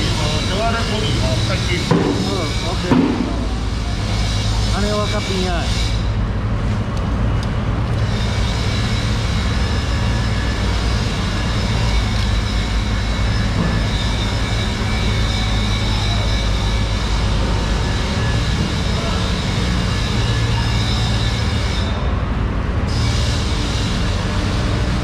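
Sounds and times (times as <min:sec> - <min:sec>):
machinery droning: 0:00.0 - 0:25.0.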